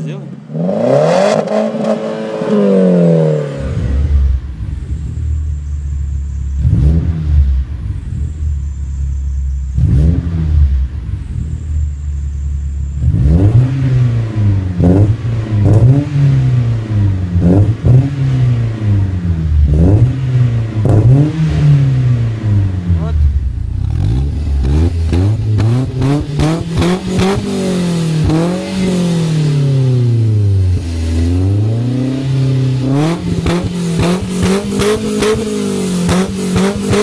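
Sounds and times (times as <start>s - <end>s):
car engine revving: 0.0s - 37.0s
car engine idling: 2.7s - 37.0s.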